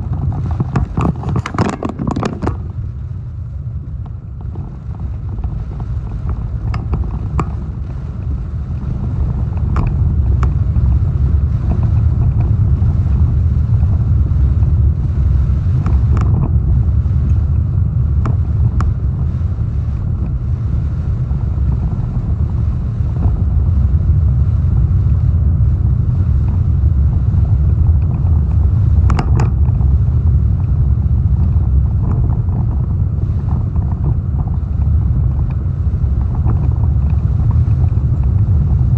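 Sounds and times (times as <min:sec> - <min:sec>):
strong wind buffeting microphone: 0:00.0 - 0:38.9.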